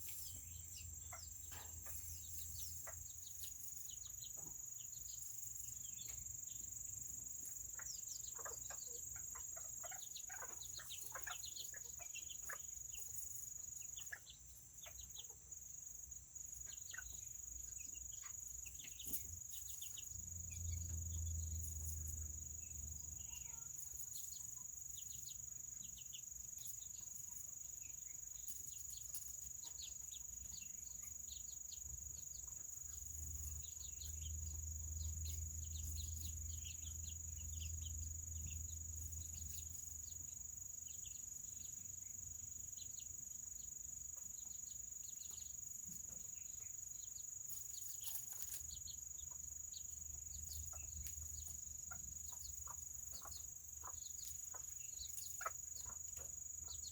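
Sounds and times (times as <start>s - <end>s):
chickens peeping and chirping: 0.0s - 56.9s.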